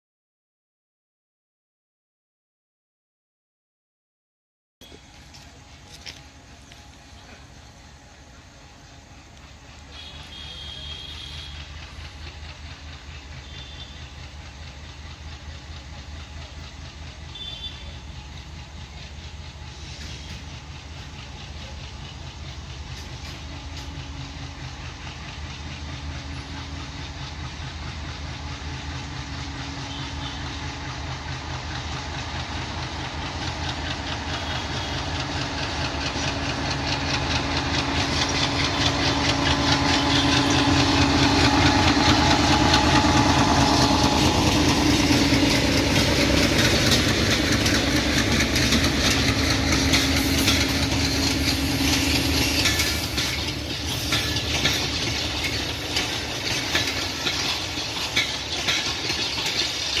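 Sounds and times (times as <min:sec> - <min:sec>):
diesel locomotive engine drone: 0:04.8 - 1:00.0
train wheels rattling over rails: 0:04.8 - 1:00.0.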